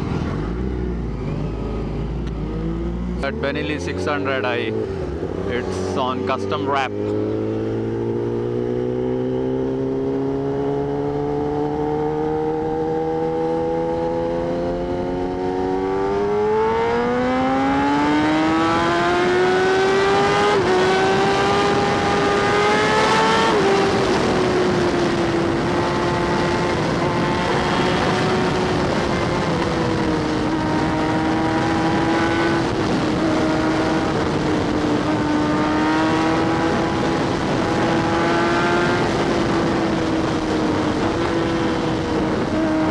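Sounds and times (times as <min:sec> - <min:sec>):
motorcycle engine accelerating: 0:00.0 - 0:42.9
wind rushing over microphone: 0:00.0 - 0:42.9.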